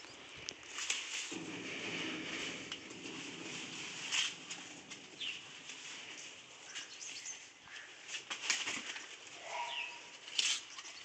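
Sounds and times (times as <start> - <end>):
goats chewing leaves: 0.0 - 11.0
leaves rustling and crackling: 0.0 - 11.0.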